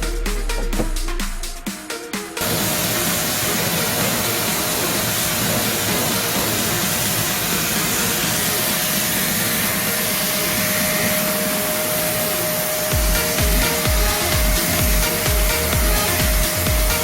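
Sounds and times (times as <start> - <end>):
pressure washer spraying water: 2.4 - 17.0
steady hum: 2.4 - 17.0.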